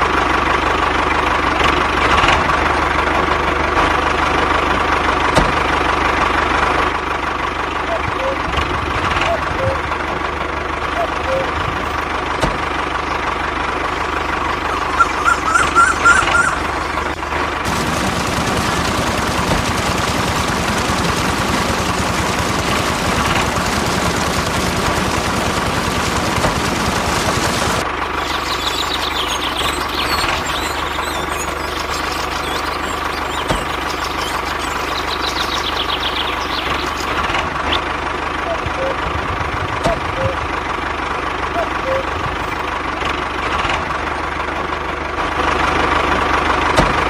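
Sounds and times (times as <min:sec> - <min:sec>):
rotavator rattling churn: 0:00.0 - 0:47.0.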